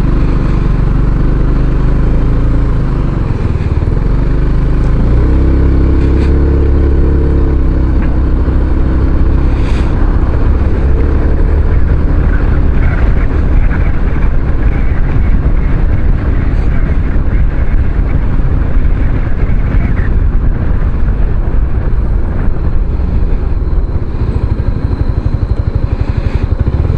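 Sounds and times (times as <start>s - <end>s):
scooter engine running: 0.0s - 26.9s
wind noise on microphone: 0.0s - 26.9s.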